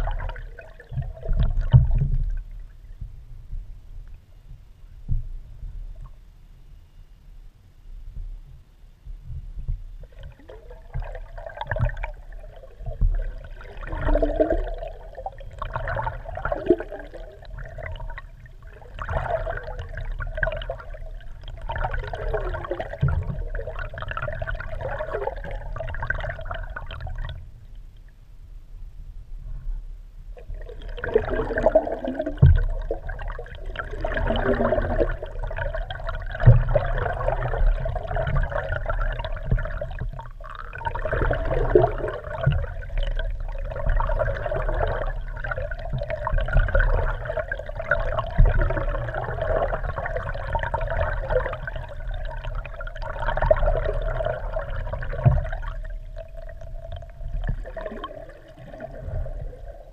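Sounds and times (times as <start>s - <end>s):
water rushing and gurgling underwater: 0.0s - 6.8s, 9.0s - 59.9s
steady hum: 0.0s - 59.9s.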